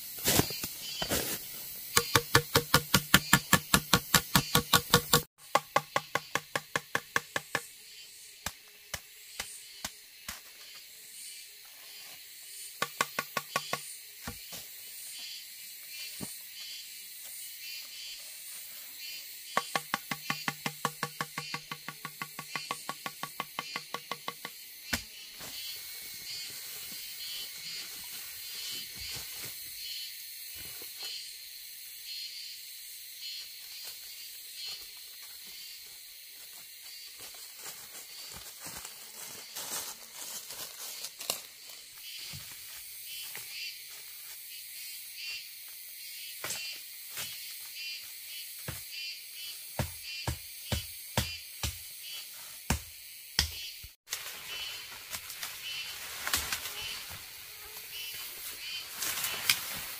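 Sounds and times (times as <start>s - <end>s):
insects chirping chorus: 0.0s - 59.9s.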